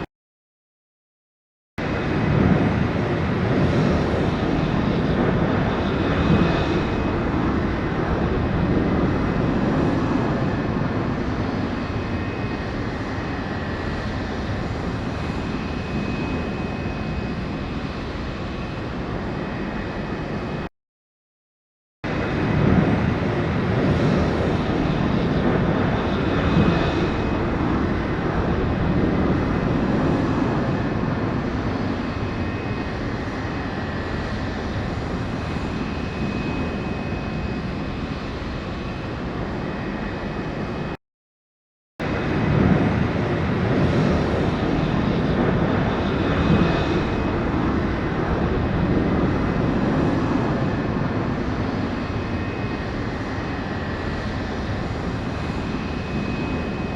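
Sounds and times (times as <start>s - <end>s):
aircraft engine drone: 1.8s - 20.7s, 22.1s - 41.0s, 42.0s - 56.9s.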